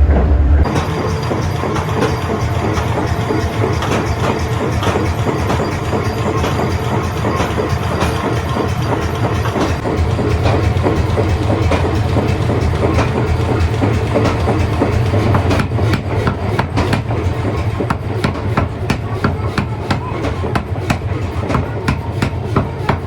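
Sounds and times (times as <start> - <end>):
forging machinery low hum: 0.0 - 23.0
metallic knocks and clanks: 0.6 - 23.0.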